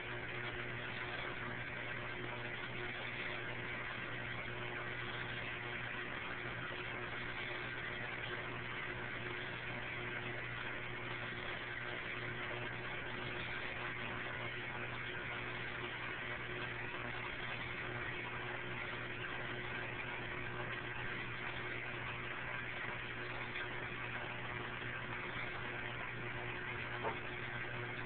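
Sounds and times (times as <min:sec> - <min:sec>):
aquarium filter pump humming: 0:00.0 - 0:28.0.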